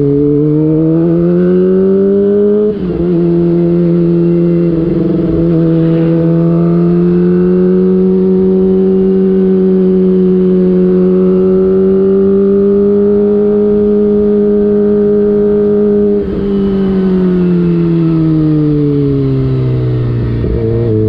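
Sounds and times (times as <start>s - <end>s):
high-revving motorcycle engine: 0.0s - 21.0s.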